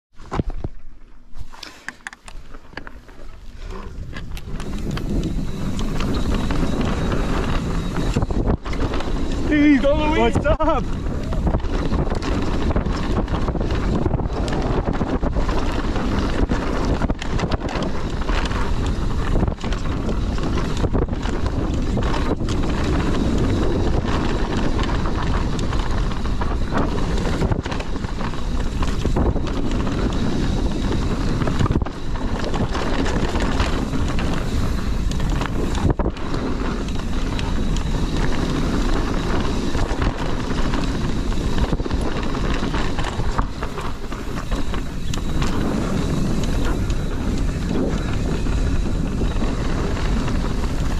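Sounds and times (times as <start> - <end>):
wind rush on microphone: 0.1 - 50.9
tyres rolling on dirt: 2.1 - 50.9.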